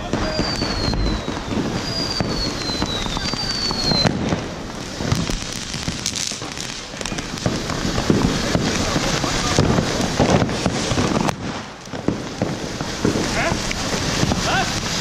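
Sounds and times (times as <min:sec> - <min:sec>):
firework fountain hissing: 0:00.0 - 0:15.0
fireworks crackling and popping: 0:00.0 - 0:15.0.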